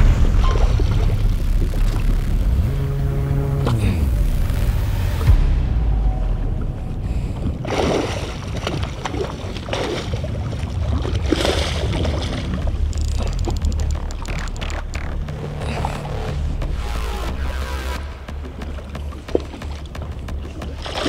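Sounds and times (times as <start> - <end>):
boat engine rumble: 0.0 - 21.0
water washing against hull: 0.0 - 21.0
wind: 0.0 - 21.0.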